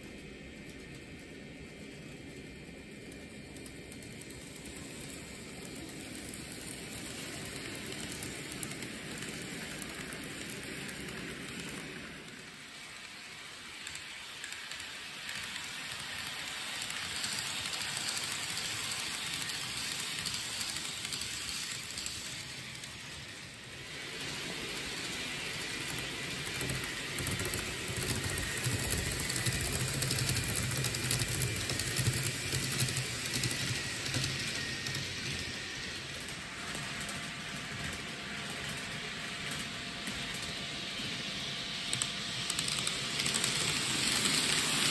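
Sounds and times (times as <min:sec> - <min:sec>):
model train wheels clattering: 0:00.0 - 0:44.9.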